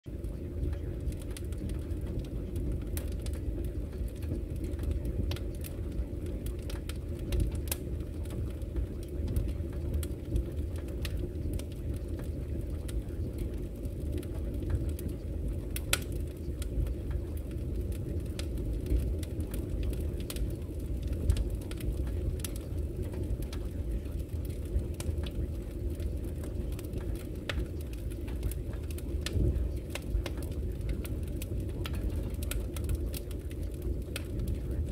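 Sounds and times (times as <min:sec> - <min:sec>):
muffled low rumbling: 0:00.1 - 0:34.9.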